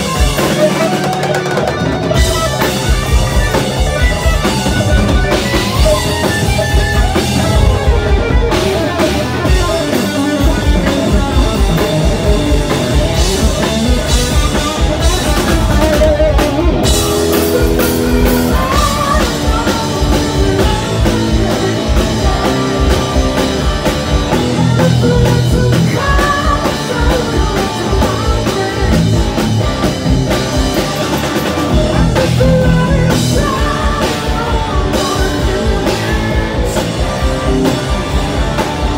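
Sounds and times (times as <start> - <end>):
distorted electric guitar: 0.0 - 38.9
driving drum kit: 0.0 - 38.9.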